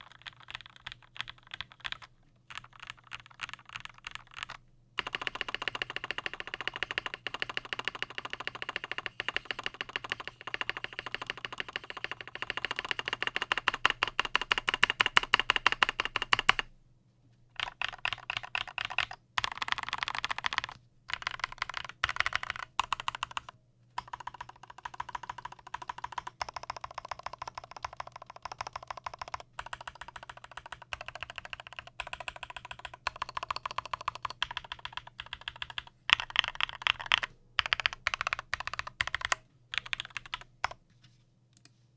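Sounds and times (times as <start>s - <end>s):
mechanical keyboard typing: 0.0s - 16.7s, 17.6s - 40.8s.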